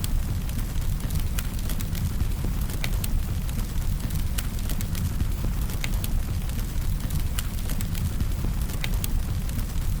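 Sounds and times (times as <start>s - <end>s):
logs crackling and popping: 0.1s - 10.0s.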